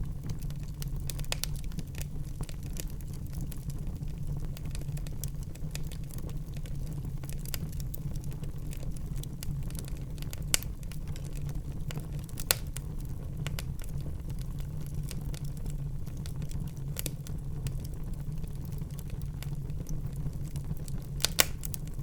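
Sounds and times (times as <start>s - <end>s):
fire crackling and popping: 0.0s - 22.0s
flames rumbling: 0.0s - 22.0s.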